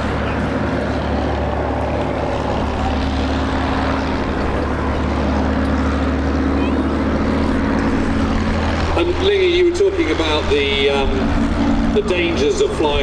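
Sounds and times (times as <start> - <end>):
propeller aircraft drone: 0.0 - 13.0.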